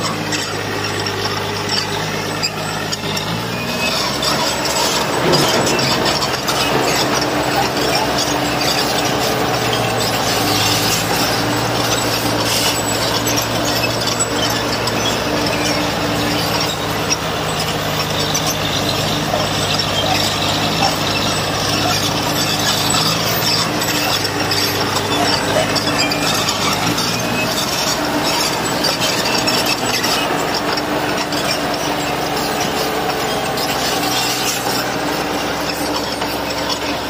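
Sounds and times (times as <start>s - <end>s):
heavy machinery diesel engine: 0.0s - 37.0s.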